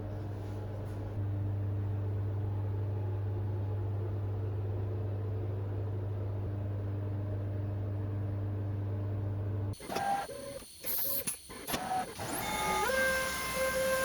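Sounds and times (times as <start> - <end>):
milling machine low hum: 0.0 - 14.0.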